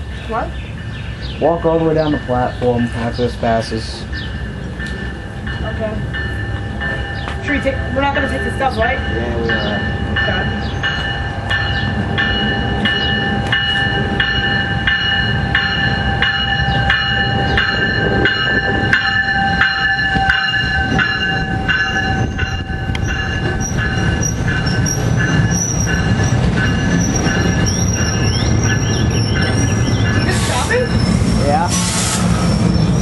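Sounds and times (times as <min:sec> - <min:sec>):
train wheels clicking: 0:01.6 - 0:33.0
high-pitched train squeal: 0:04.1 - 0:33.0.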